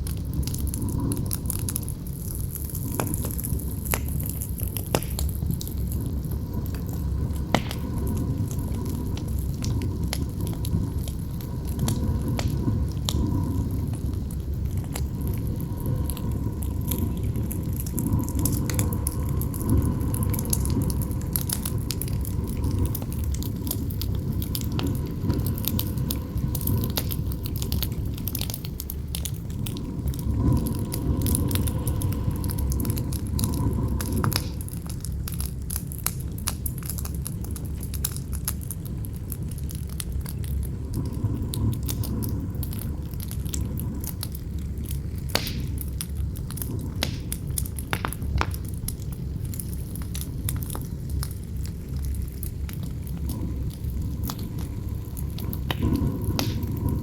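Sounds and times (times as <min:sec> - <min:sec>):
wind howling: 0:00.0 - 0:37.2, 0:39.2 - 0:57.0
campfire crackling and popping: 0:00.0 - 0:57.0
wind rumble: 0:00.0 - 0:57.0.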